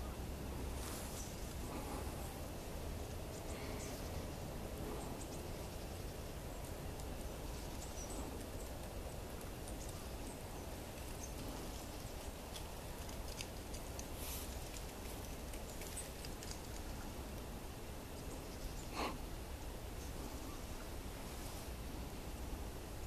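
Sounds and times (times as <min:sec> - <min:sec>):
songbirds chipping: 0:00.0 - 0:23.0
steady low rumble: 0:00.0 - 0:23.0.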